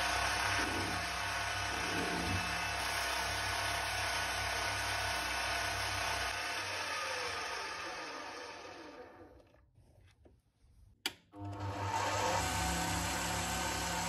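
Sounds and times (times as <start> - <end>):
metal lathe whine: 0.0 - 9.2, 11.5 - 14.0.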